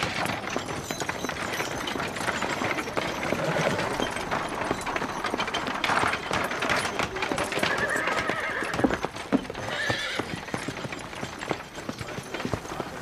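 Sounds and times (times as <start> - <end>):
horses' hooves clopping: 0.0 - 13.0.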